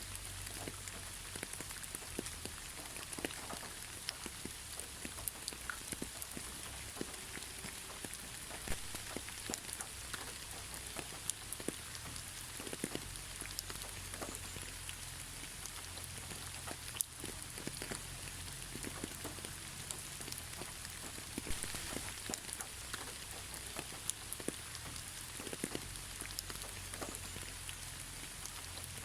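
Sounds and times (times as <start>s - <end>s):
gentle rain: 0.0s - 29.0s
raindrops striking surfaces: 0.0s - 29.0s.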